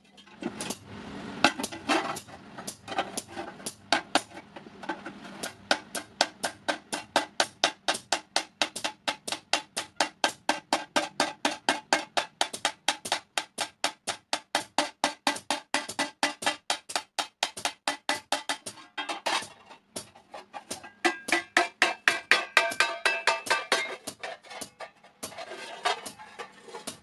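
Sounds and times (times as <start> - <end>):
hammer beating iron on anvil: 0.5 - 27.0.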